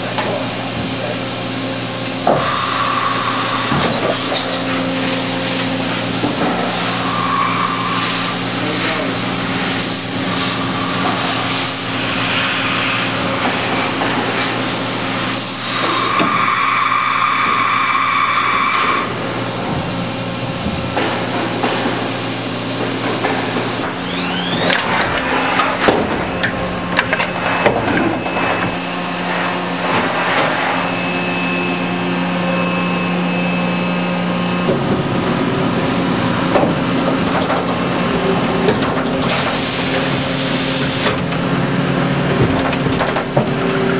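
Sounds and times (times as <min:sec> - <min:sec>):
high steady whine: 0:00.0 - 0:43.9
machine hum: 0:00.0 - 0:43.9.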